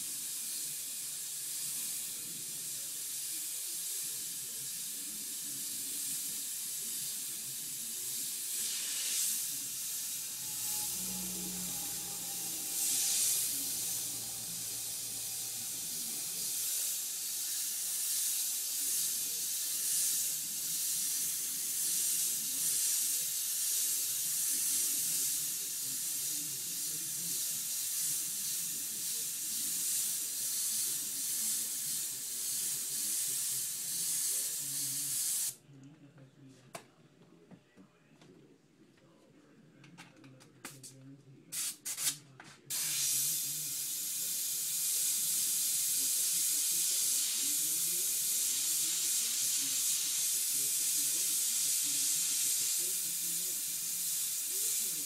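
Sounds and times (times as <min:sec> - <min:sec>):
airbrush spraying hiss: 0:00.0 - 0:35.6, 0:42.7 - 0:55.0.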